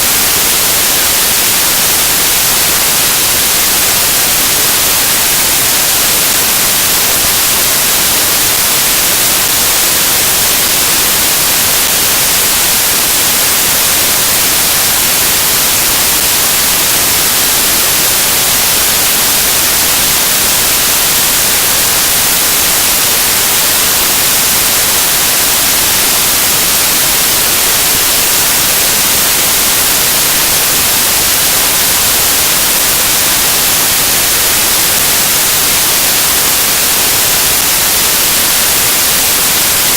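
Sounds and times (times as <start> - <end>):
high-pitched static hiss: 0.0 - 39.9.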